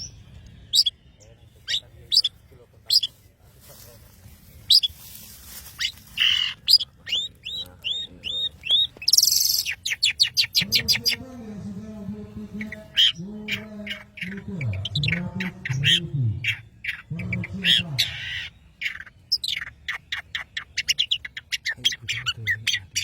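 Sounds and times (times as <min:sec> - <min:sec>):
shrike singing: 0:00.0 - 0:03.2, 0:04.5 - 0:23.0.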